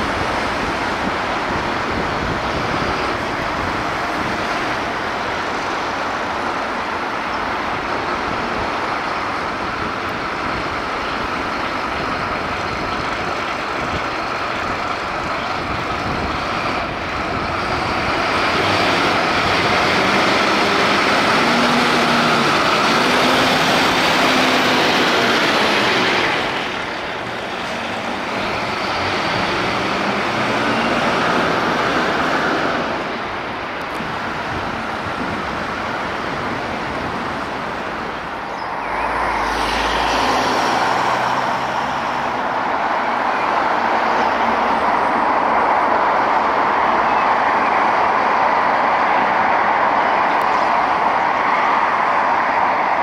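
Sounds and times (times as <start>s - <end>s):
heavy vehicles passing: 0.0s - 53.0s
steady traffic noise: 0.0s - 53.0s.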